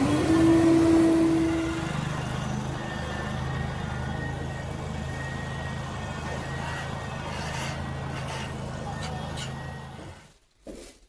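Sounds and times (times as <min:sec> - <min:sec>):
vehicle engine humming: 0:00.0 - 0:10.4.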